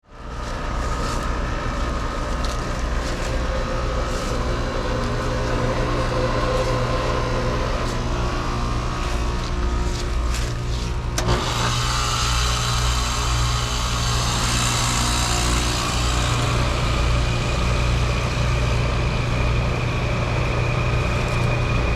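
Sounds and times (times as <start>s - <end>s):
heat pump compressor hum: 0.0s - 21.9s.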